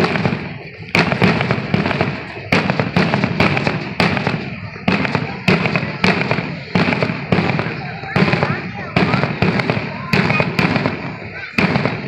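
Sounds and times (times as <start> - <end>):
fireworks crackling: 0.0 - 12.0
fireworks exploding: 0.0 - 12.0.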